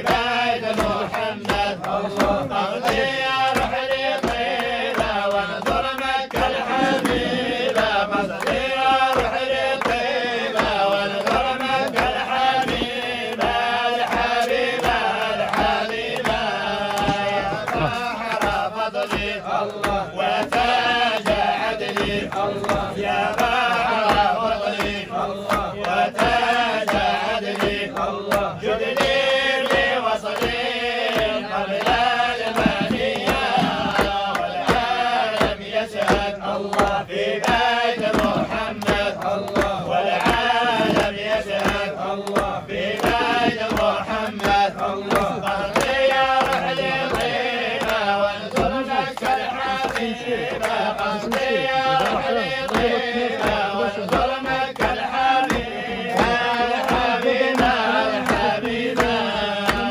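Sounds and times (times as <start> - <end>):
men chanting in unison: 0.0 - 59.9
rhythmic hand clapping: 0.0 - 59.9.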